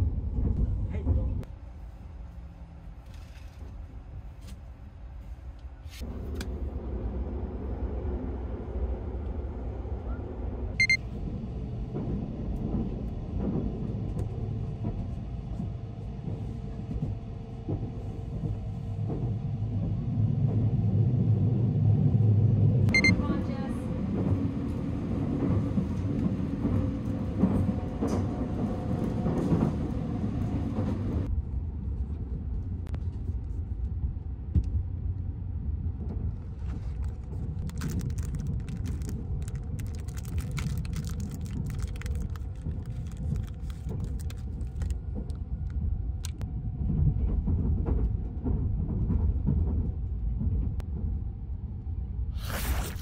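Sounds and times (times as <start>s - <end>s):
train low rumble: 0.0s - 52.5s.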